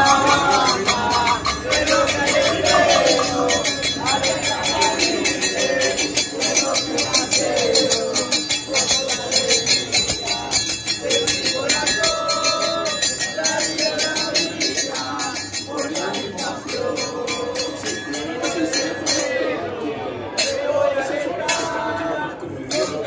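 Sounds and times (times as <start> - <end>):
jingling percussion beat: 0.0 - 19.6, 20.4 - 22.0, 22.7 - 23.0
fans chanting in unison: 0.0 - 23.0.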